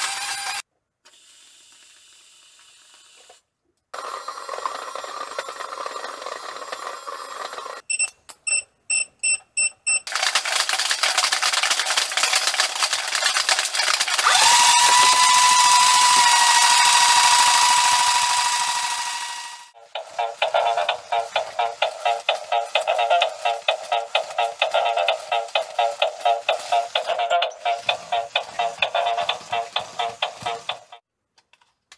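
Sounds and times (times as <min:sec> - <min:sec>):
toy electric motor whining: 0:00.0 - 0:03.4, 0:04.0 - 0:07.8, 0:10.1 - 0:31.0.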